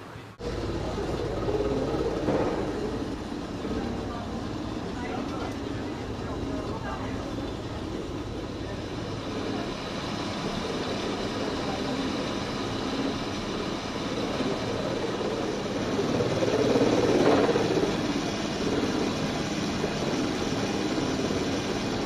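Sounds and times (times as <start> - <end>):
watermill machinery rumbling: 0.0 - 22.0.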